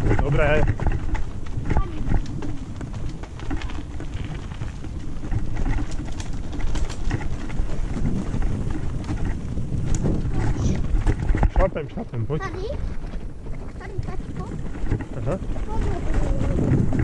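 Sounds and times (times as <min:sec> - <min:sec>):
bike clicks and rattles: 0:00.0 - 0:17.0
tyres crunching over dirt trail: 0:00.0 - 0:17.0
wind buffeting microphone: 0:00.0 - 0:17.0.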